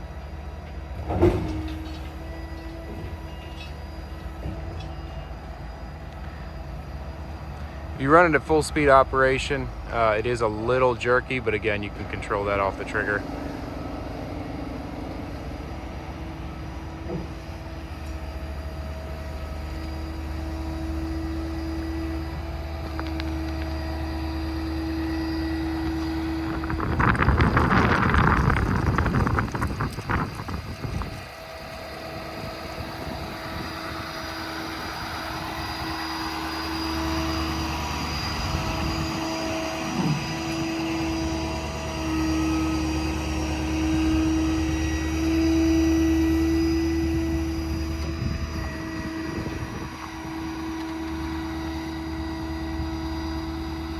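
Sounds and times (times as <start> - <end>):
diesel engine running: 0.0 - 53.9
hydraulic pump whining: 0.0 - 53.9.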